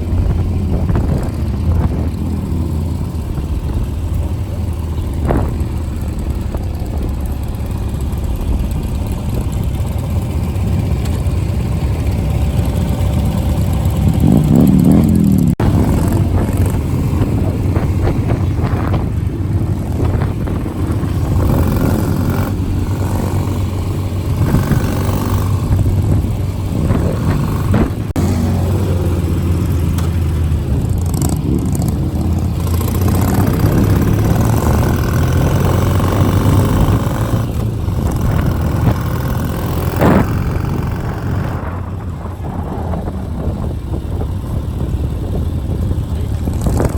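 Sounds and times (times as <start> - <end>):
motorcycle engine droning: 0.0 - 46.9
motorcycles revving: 0.0 - 46.9.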